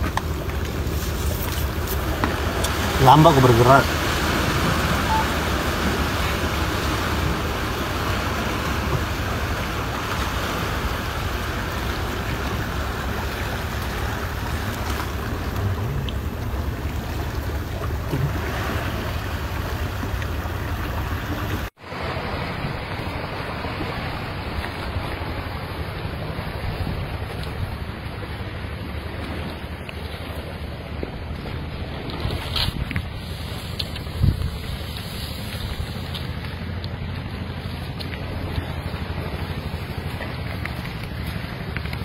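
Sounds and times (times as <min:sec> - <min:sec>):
surf: 0:00.0 - 0:42.0
wind buffeting microphone: 0:04.1 - 0:42.0.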